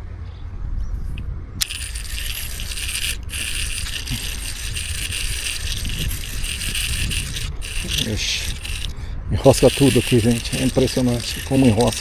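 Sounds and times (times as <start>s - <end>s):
reel spool spinning: 1.1s - 12.0s
fishing reel click: 1.6s - 12.0s
high metallic brake buzz: 1.6s - 12.0s.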